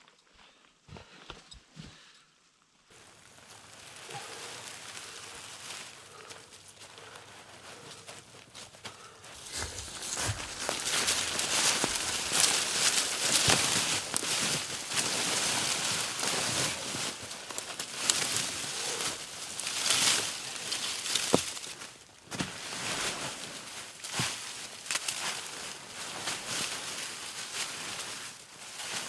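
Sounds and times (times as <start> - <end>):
leaves and sticks rustling: 2.9 - 29.0.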